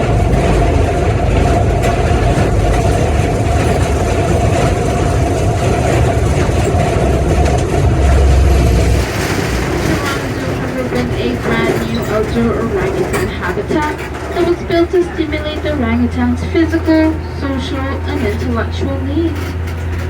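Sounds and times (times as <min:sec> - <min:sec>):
steady whine: 0:00.0 - 0:20.0
tram engine rumble: 0:00.0 - 0:20.0.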